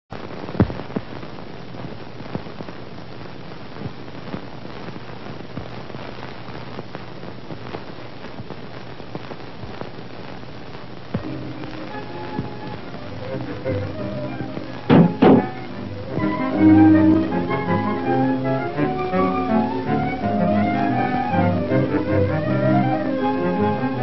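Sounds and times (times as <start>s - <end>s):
old film soundtrack crackle and hiss: 0.1s - 24.0s.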